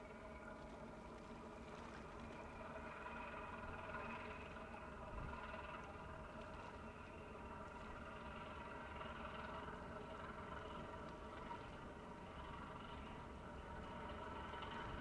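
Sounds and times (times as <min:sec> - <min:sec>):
distant ship engines droning: 0:00.0 - 0:15.0.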